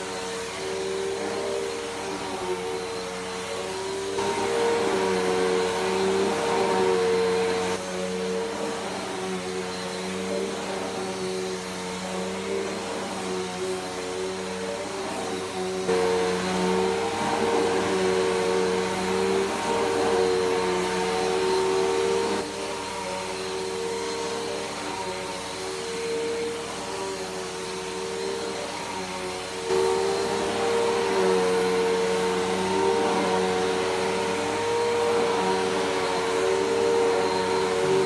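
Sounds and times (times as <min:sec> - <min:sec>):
upright vacuum cleaner running: 0:00.0 - 0:38.0.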